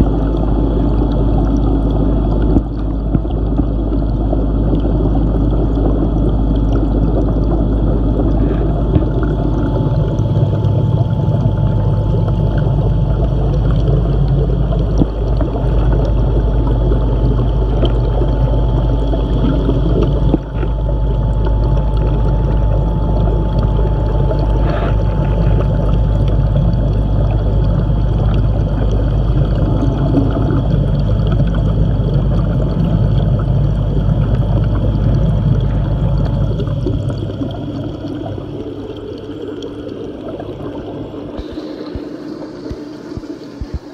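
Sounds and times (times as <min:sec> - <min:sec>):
low hum: 0:00.0 - 0:43.9
thin steady tone: 0:00.0 - 0:43.9
underwater rushing water: 0:00.0 - 0:43.9.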